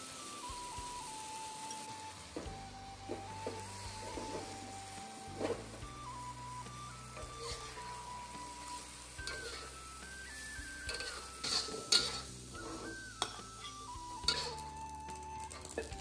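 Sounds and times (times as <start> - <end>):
background music melody: 0.0 - 16.0
food sizzling: 0.0 - 16.0
metal spatula scraping wok: 0.1 - 16.0.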